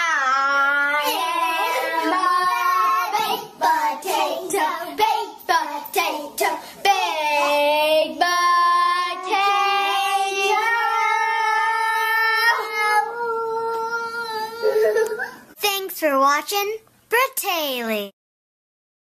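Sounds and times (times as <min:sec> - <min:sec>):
child singing: 0:00.0 - 0:15.2.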